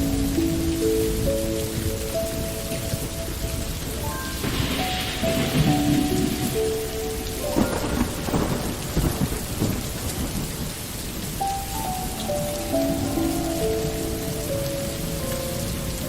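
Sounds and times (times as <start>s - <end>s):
soft melody of held notes: 0.0s - 10.4s, 11.0s - 16.0s
steady rain: 0.0s - 16.0s
thunder rumbling: 0.0s - 16.0s.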